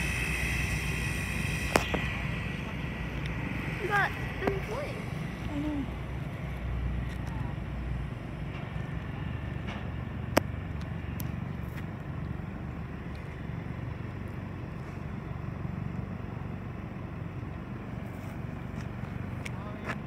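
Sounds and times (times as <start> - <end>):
distant turboprop plane taxiing: 0.0 - 20.0.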